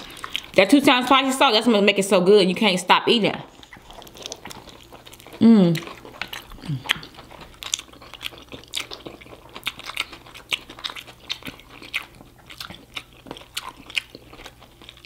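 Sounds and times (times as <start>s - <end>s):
person chewing food: 0.0s - 0.6s, 3.5s - 15.0s.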